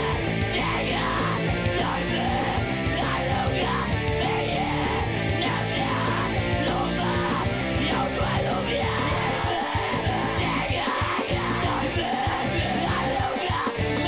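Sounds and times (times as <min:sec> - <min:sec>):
bass: 0:00.0 - 0:14.0
distorted electric guitars: 0:00.0 - 0:14.0
drums: 0:00.0 - 0:14.0
man singing rock vocals: 0:00.0 - 0:14.0.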